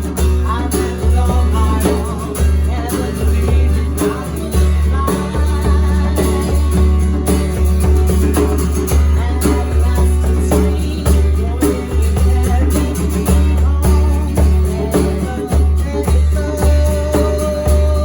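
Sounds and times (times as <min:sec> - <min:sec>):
live band playing: 0:00.0 - 0:18.0
person singing: 0:00.0 - 0:18.0.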